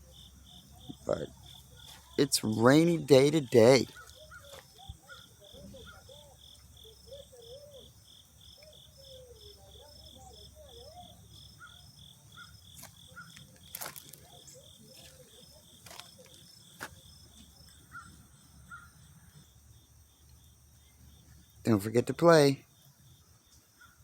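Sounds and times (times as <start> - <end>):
insects chirping faintly: 0.0 - 24.0.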